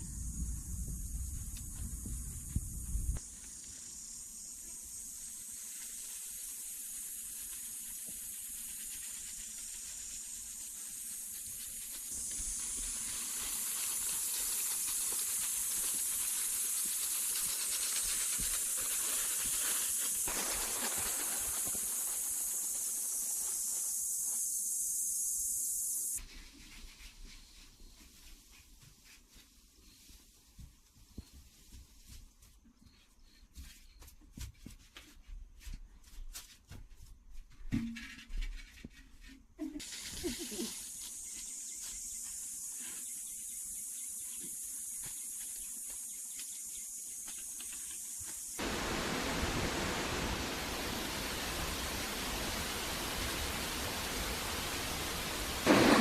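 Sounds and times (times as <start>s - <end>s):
high-pitched hiss: 0.0s - 28.7s, 39.8s - 56.0s.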